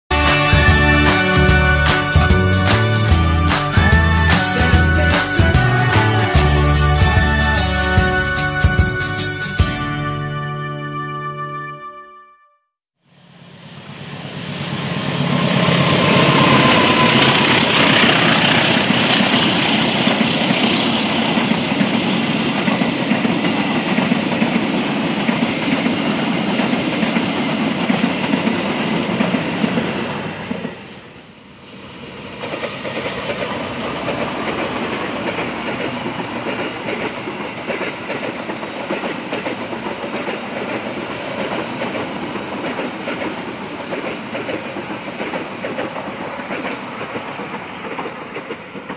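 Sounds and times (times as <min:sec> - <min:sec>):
diesel locomotive engine: 0:00.1 - 0:10.3, 0:13.1 - 0:48.9
train wheels clickety-clack on rails: 0:00.2 - 0:08.9, 0:14.6 - 0:48.9.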